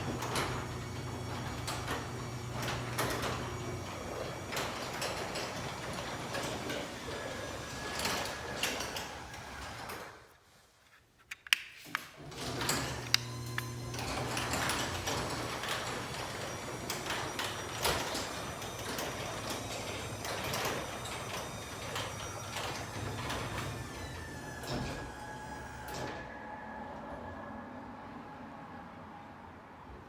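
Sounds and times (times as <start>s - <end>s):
garage door rattling on tracks: 0.0s - 10.2s, 12.2s - 26.3s
garage door opener motor hum: 0.0s - 10.3s, 12.1s - 27.6s.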